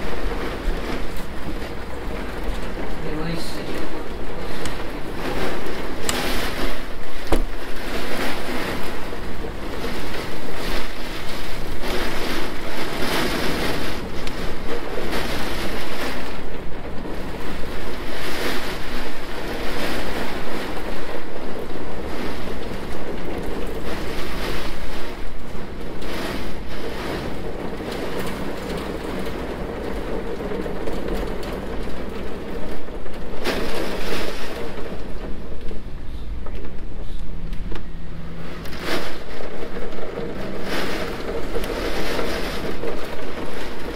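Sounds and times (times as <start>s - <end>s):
wind and rain: 0.0s - 43.9s
wind rumbling on microphone: 0.0s - 43.9s.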